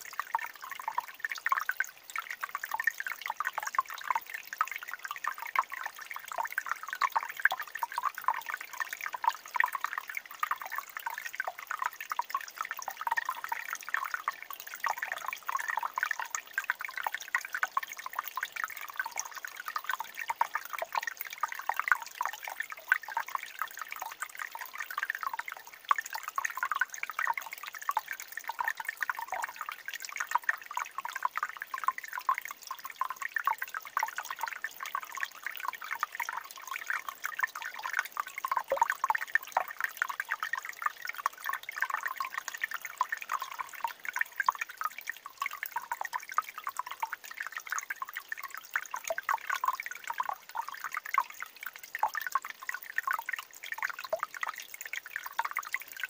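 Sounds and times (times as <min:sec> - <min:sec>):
water trickling among rocks: 0:00.0 - 0:56.0.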